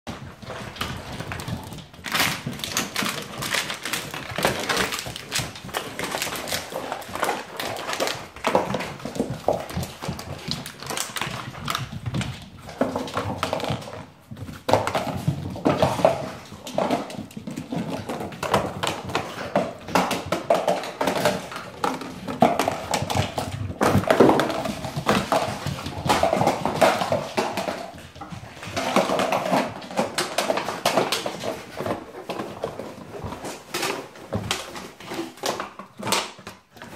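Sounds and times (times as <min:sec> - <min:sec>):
claws clicking on hard floor: 0:00.1 - 0:36.9.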